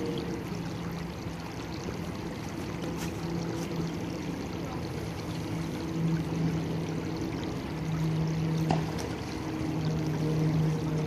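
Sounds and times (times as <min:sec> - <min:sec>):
creek water trickling over stones: 0:00.0 - 0:11.0
low hum: 0:00.0 - 0:11.0.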